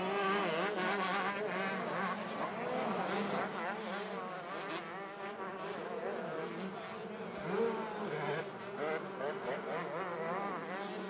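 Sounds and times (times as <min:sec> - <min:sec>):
motocross bike engines buzzing: 0:00.0 - 0:11.0.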